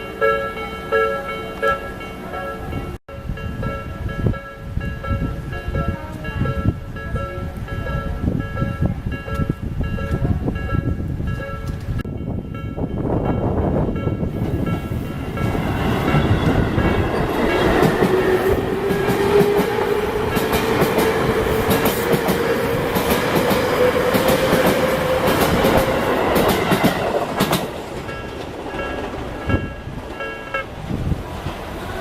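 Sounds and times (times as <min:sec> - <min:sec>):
crossing warning bell ringing: 0:00.0 - 0:30.8
electric train passing: 0:00.0 - 0:32.0.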